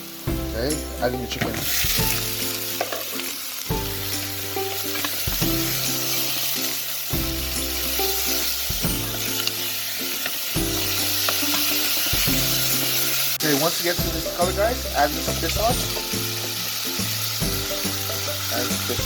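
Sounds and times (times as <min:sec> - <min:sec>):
background music chords: 0:00.0 - 0:19.0
chicken wings sizzling in oil: 0:00.0 - 0:19.0.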